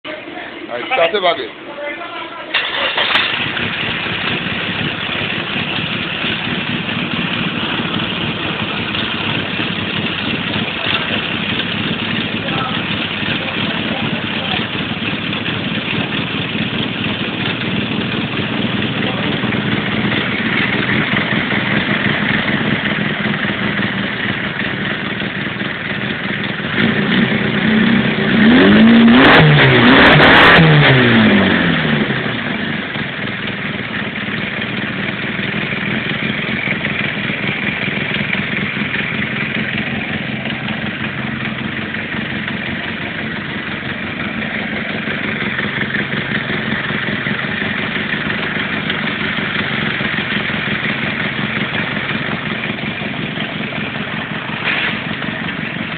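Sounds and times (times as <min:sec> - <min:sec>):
engine idling and revving: 0:00.1 - 0:55.9.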